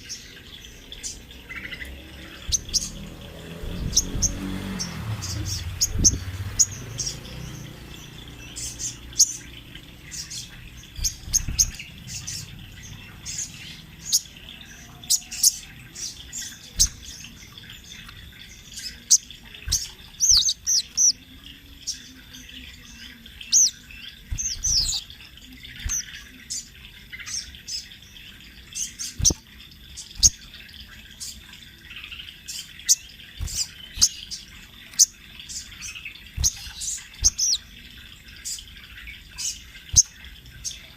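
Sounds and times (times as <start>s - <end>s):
bird chirping and twittering: 0.0s - 40.9s.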